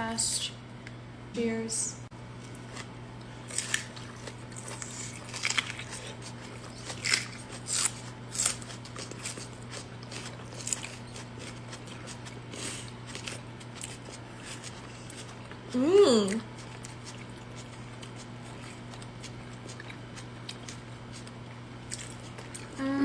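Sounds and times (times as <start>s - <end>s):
steady low hum: 0.0s - 23.0s
chewing food close up: 2.5s - 22.8s.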